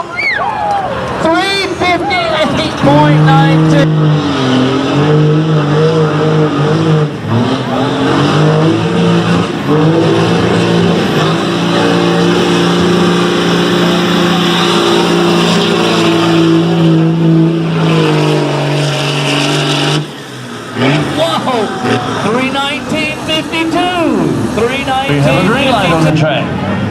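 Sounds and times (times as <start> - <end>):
diesel truck engine at full throttle: 0.0 - 26.9.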